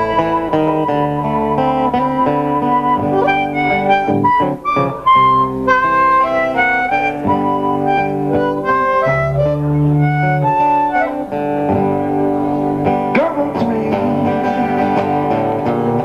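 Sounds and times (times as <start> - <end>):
harmonica melody: 0.0 - 16.0
strummed acoustic guitars: 0.0 - 16.0.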